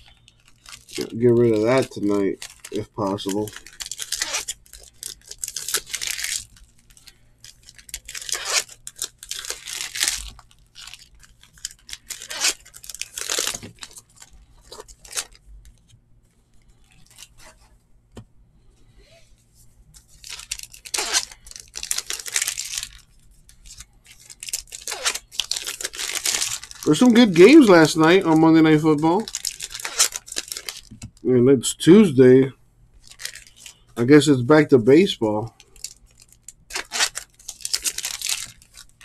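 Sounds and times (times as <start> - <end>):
wrappers tearing and crinkling: 0.0 - 15.9, 16.6 - 17.7, 19.9 - 31.2, 33.0 - 34.4, 35.3 - 39.0.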